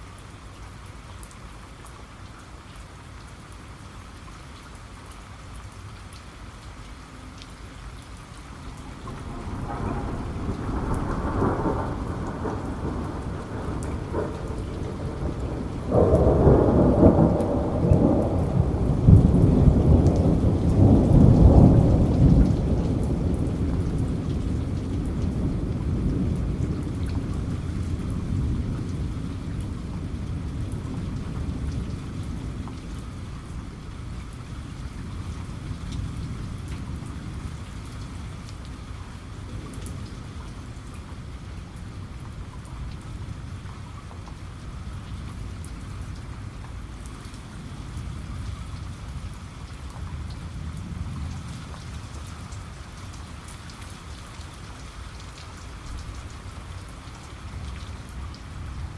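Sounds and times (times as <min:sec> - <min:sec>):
heavy rain pattering: 0:00.0 - 0:58.9
low rumble of thunder: 0:08.2 - 0:58.9.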